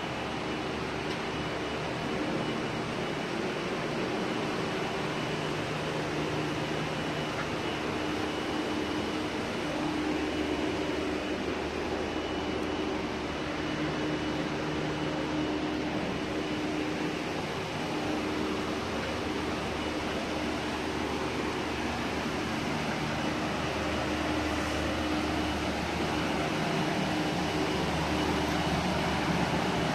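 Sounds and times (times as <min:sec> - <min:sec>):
faint thin whine: 0:00.0 - 0:29.9
ventilation unit hum and rushing air: 0:00.0 - 0:29.9.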